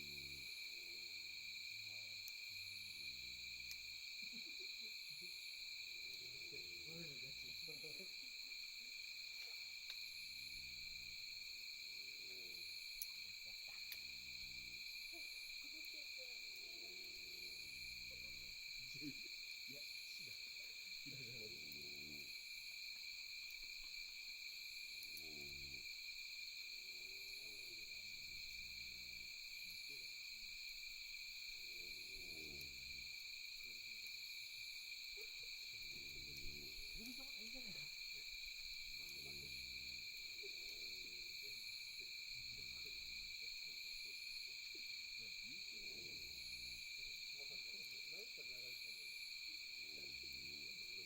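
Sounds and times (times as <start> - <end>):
campfire crackling: 0.0 - 48.2
night insect chorus: 0.0 - 51.0.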